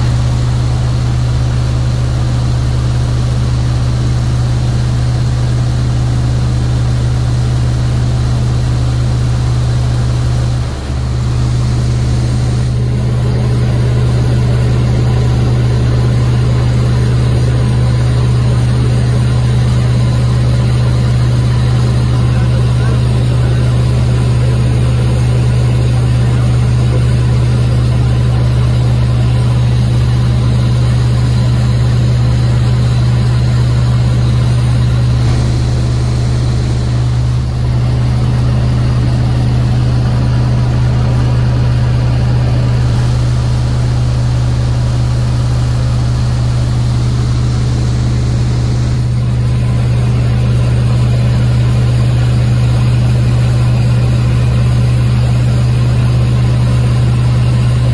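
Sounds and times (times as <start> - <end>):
propeller plane engine droning: 0.0 - 57.9.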